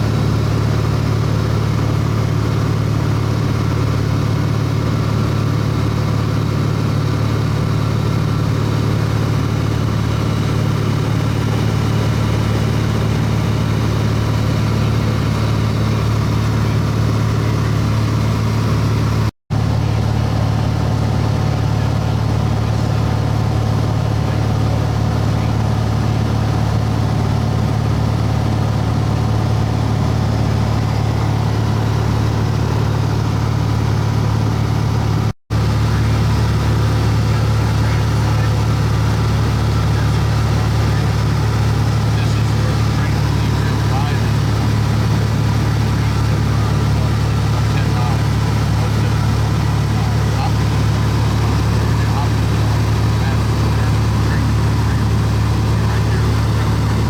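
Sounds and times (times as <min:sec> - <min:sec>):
propeller engine droning in cabin: 0:00.0 - 0:57.0.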